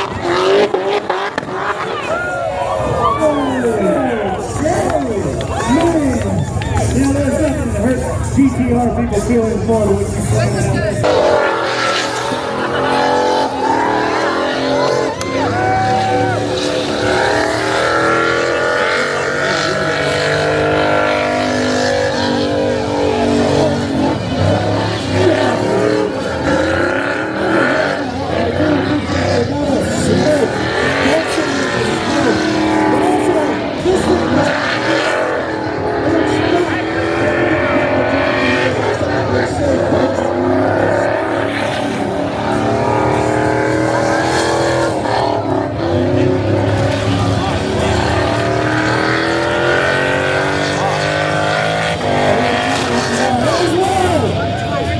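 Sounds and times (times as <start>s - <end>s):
car engine at high revs: 0.0s - 54.9s.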